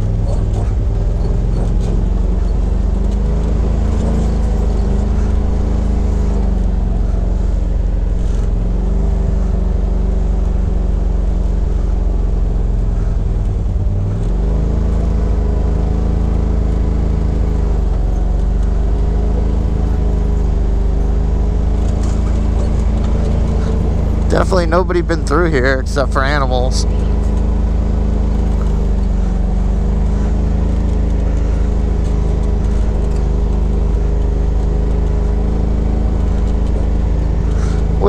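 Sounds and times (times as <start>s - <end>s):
engine running while driving: 0.0s - 38.0s.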